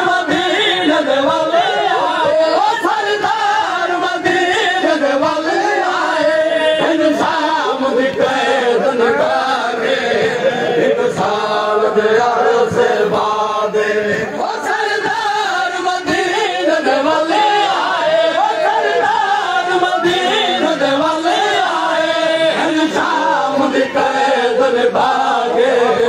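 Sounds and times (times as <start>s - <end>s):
man reciting: 0.0s - 26.0s
men chanting a lament: 0.0s - 26.0s.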